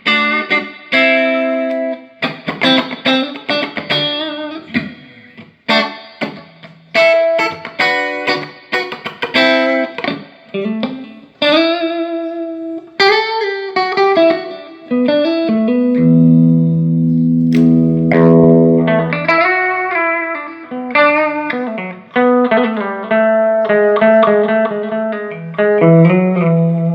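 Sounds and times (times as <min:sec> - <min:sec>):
electric guitar playing: 0:00.0 - 0:26.9.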